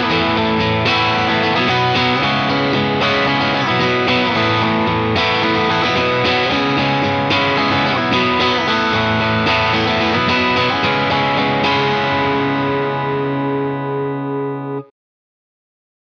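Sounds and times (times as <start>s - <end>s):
electric guitar chords through amp: 0.0s - 14.9s.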